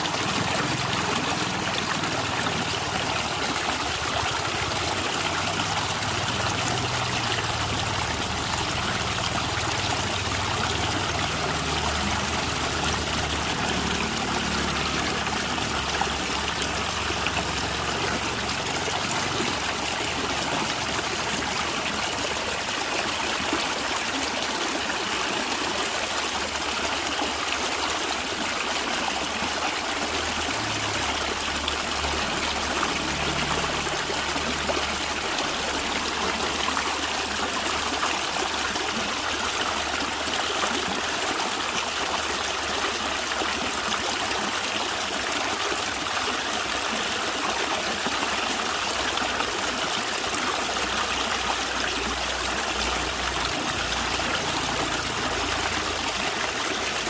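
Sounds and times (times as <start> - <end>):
running water gurgling: 0.0 - 57.0.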